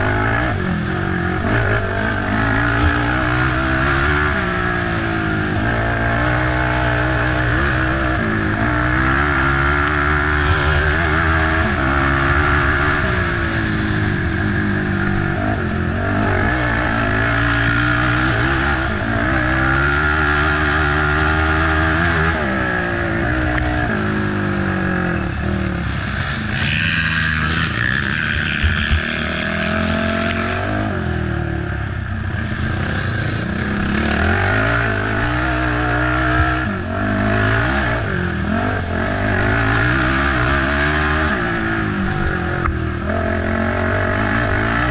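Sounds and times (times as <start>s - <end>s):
quad engine revving: 0.0s - 44.9s.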